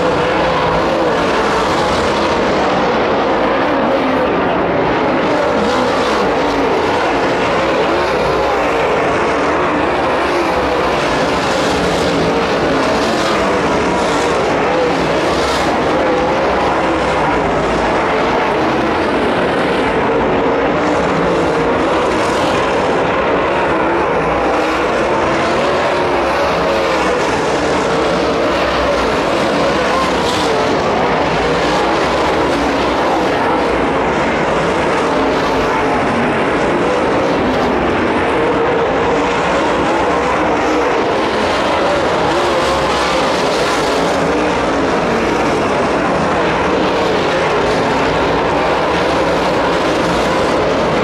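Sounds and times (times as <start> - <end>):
race car engines droning: 0.0 - 51.0.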